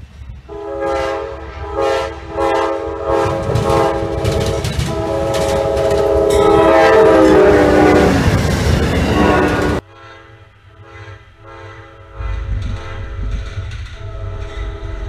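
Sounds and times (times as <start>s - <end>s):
train engines and wheels rumbling: 0.0s - 15.0s
locomotive air horn blasts: 0.5s - 13.3s.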